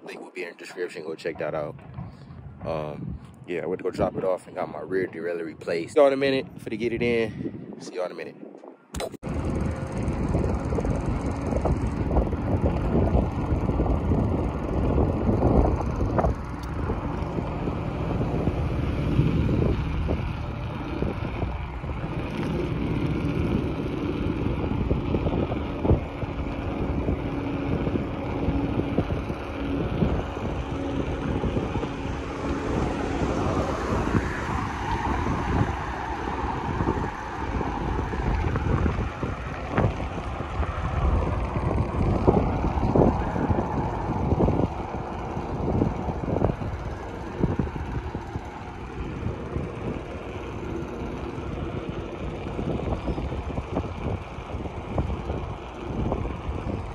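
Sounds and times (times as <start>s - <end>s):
wind noise on microphone: 0.0s - 56.9s
steady low hum: 8.4s - 56.9s
tyres rumbling on road: 9.2s - 56.9s.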